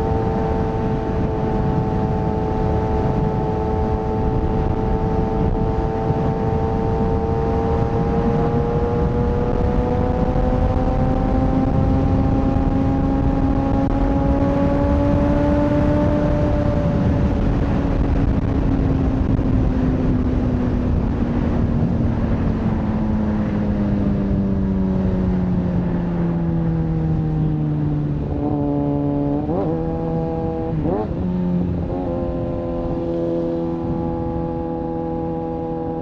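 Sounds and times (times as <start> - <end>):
heavy wind noise: 0.0 - 36.0
motorcycle engine: 0.0 - 36.0.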